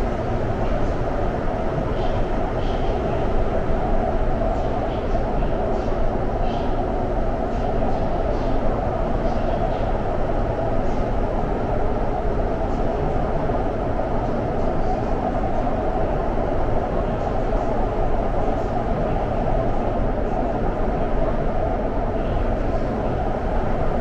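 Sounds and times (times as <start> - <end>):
metro train running: 0.0 - 24.0.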